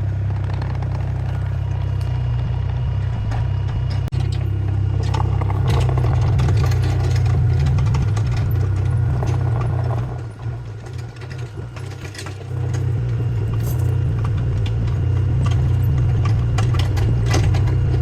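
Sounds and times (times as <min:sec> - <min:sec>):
excavator diesel engine running: 0:00.0 - 0:18.0
machine clattering and scraping: 0:00.2 - 0:18.0.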